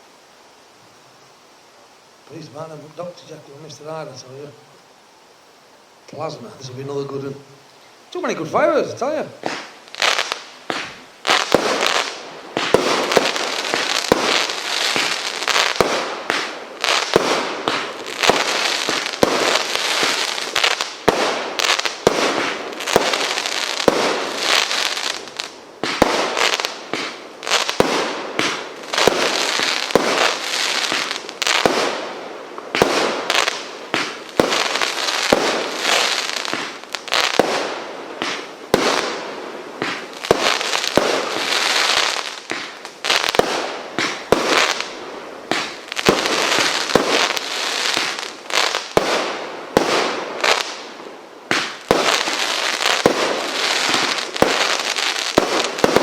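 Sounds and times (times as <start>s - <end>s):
firework bangs and crackling: 8.1s - 56.0s.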